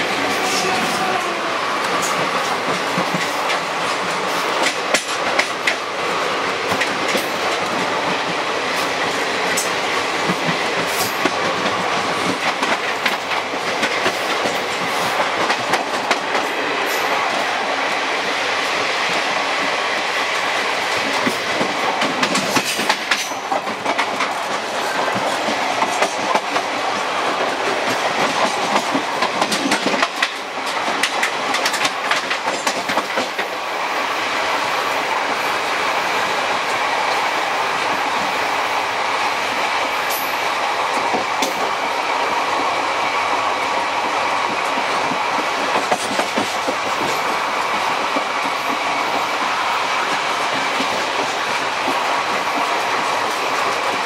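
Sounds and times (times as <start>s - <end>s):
train clattering over track: 0.0s - 54.0s
train wheels rumbling on rails: 0.0s - 54.0s.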